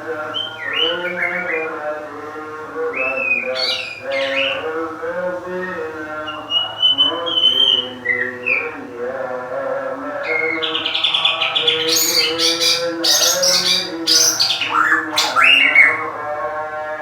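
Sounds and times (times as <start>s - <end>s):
bird calling: 0.0s - 16.4s.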